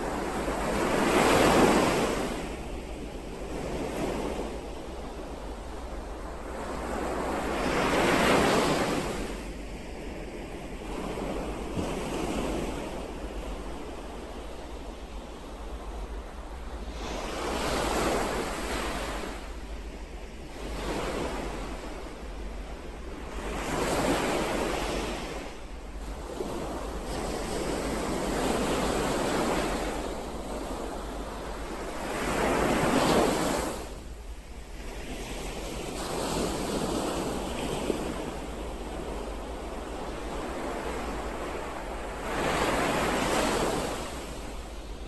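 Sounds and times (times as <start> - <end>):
ocean waves breaking: 0.0 - 45.0.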